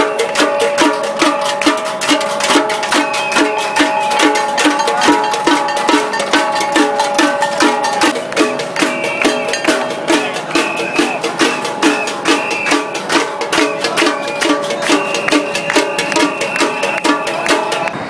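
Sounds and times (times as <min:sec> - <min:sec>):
metal pans banged by hand: 0:00.0 - 0:17.9.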